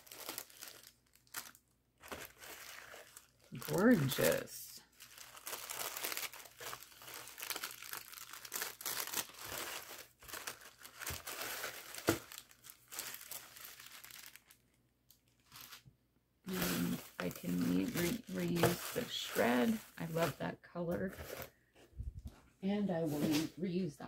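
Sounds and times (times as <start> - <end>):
paper rustling and crinkling: 0.0 - 14.6, 15.3 - 15.8, 16.5 - 20.4, 21.1 - 21.6
cellophane crackling: 0.0 - 15.9, 16.5 - 20.4.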